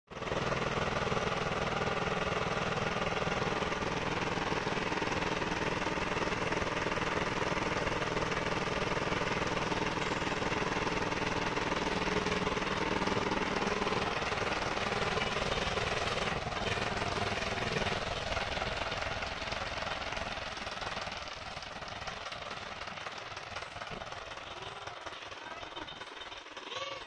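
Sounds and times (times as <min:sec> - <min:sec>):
tractor diesel engine chugging: 0:00.1 - 0:27.0.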